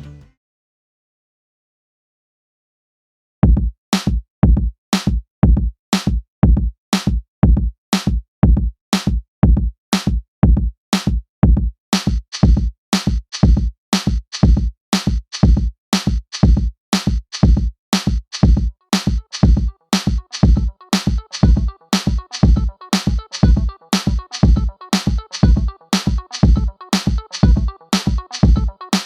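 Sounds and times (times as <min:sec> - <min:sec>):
drum-machine beat: 0:03.4 - 0:29.0.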